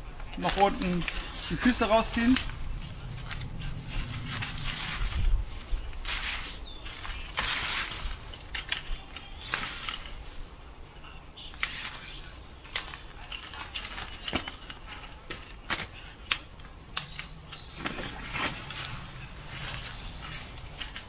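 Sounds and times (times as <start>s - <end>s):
rustling: 0.0s - 21.0s.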